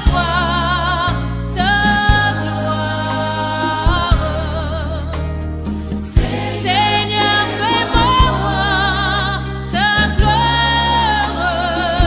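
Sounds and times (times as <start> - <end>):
gospel worship song: 0.0 - 12.0.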